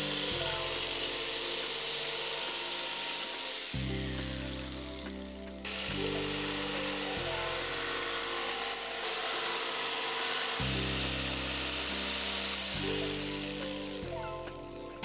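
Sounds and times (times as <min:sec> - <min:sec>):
background music with sustained chords: 0:00.0 - 0:15.0
electric jigsaw cutting wood: 0:00.0 - 0:15.0.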